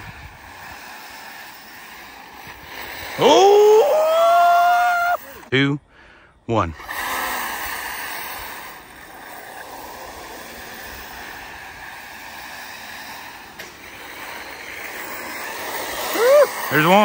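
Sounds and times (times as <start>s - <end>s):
tyres rushing on dirt: 0.0s - 5.8s, 6.5s - 17.0s
faint electric motor whine: 0.0s - 17.0s.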